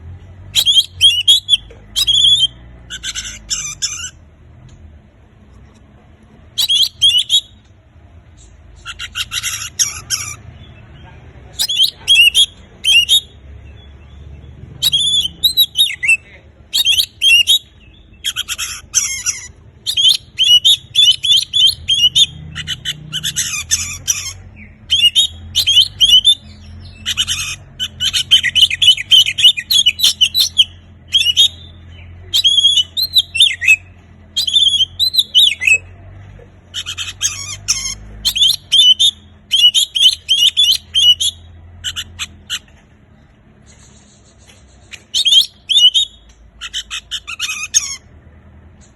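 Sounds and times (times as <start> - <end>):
magpie-robin singing: 0.1 - 4.3, 6.4 - 48.9.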